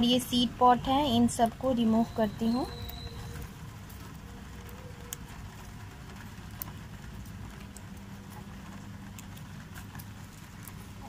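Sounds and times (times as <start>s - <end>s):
light rain pattering: 0.0s - 11.0s
raindrops ticking: 0.0s - 11.0s.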